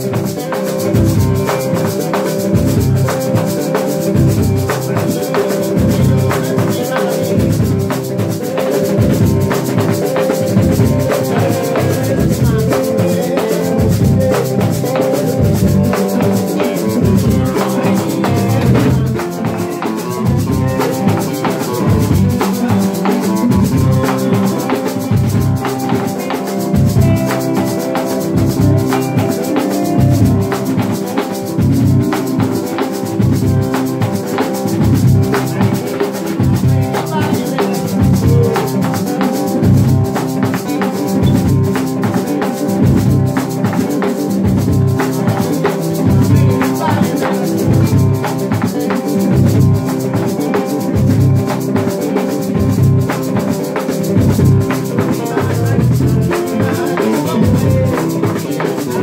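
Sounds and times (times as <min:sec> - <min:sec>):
acoustic guitar: 0:00.0 - 0:59.0
band playing a groove: 0:00.0 - 0:59.0
electric bass: 0:00.0 - 0:59.0
hand drums: 0:00.0 - 0:59.0
maracas shaking: 0:00.0 - 0:59.0.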